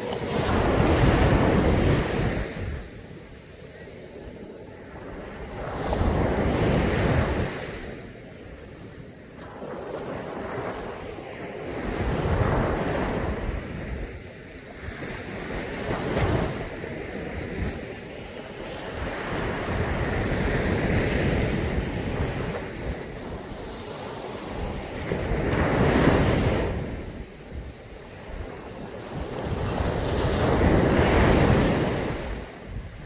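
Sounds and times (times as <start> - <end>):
sea waves breaking on a beach: 0.0 - 33.0.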